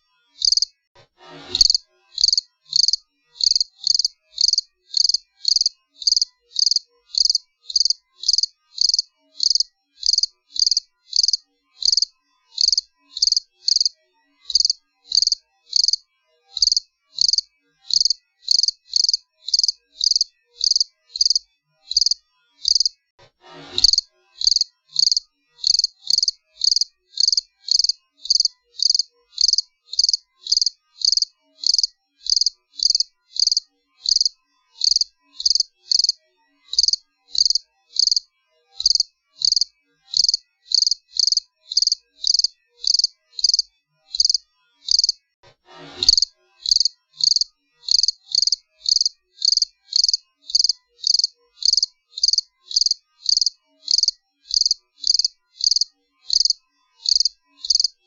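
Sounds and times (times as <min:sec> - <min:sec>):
cricket chirping: 0:00.4 - 0:00.7, 0:01.6 - 0:13.9, 0:14.5 - 0:16.0, 0:16.6 - 0:22.9, 0:23.8 - 0:38.2, 0:38.8 - 0:45.2, 0:46.1 - 0:57.9.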